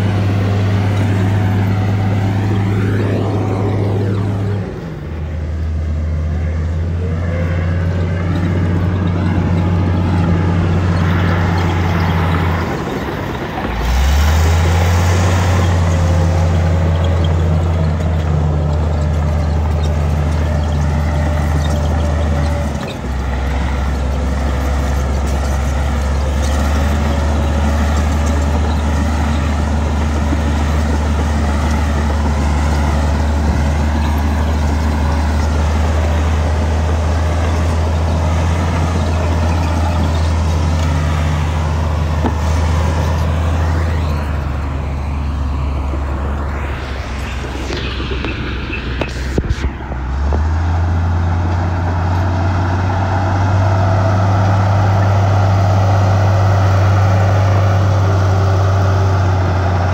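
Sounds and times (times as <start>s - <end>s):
diesel engine rumbling under load: 0.0s - 59.9s.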